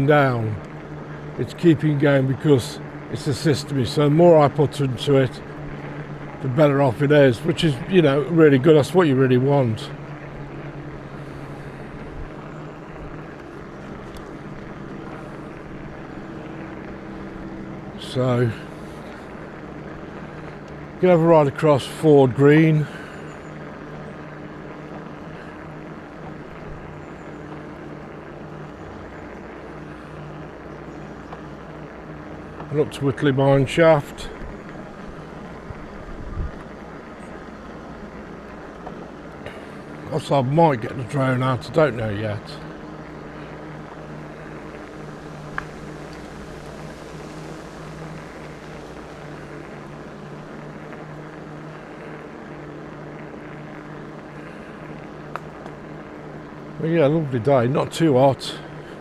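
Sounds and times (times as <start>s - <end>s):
e-bike running hum: 0.0s - 59.0s
tyre and wind hiss: 0.0s - 59.0s.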